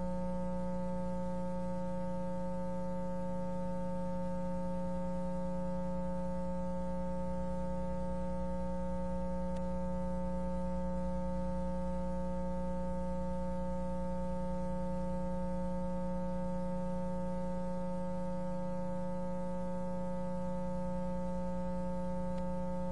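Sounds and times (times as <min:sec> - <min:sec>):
steady electrical hum: 0:00.0 - 0:22.9.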